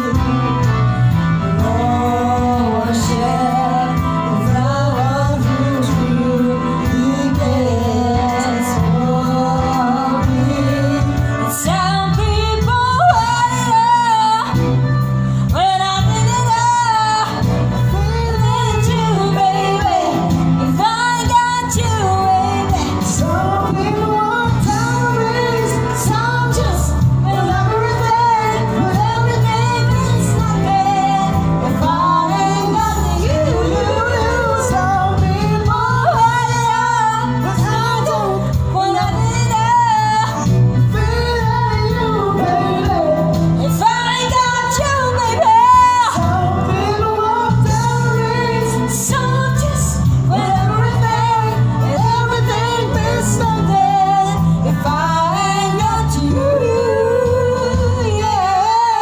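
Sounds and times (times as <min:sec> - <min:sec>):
musical backing: 0:00.0 - 0:59.0
woman and man singing duet: 0:00.0 - 0:59.0.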